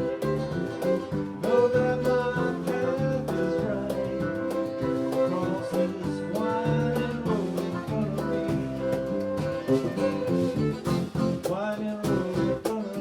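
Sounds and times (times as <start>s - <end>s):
acoustic country band playing: 0.0s - 13.0s.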